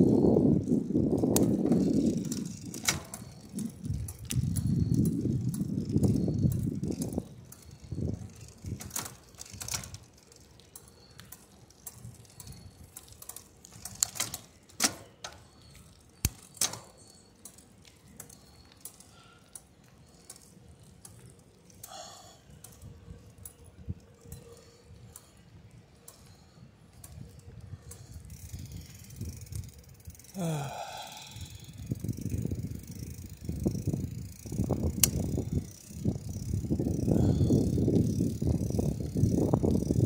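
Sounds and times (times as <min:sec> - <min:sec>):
bicycle rattling and clicking: 0:00.0 - 0:40.0.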